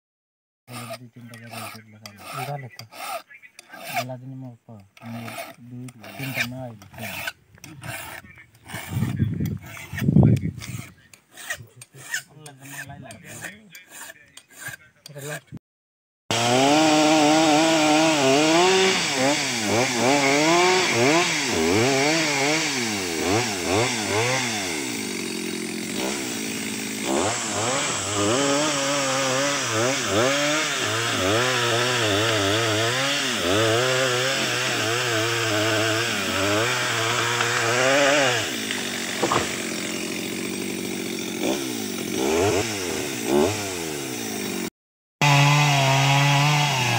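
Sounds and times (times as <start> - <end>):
chainsaw cutting tree trunk: 0.7 - 4.2, 4.8 - 15.4, 16.3 - 46.9
file rasping on chainsaw chain: 0.7 - 15.6, 16.3 - 46.9.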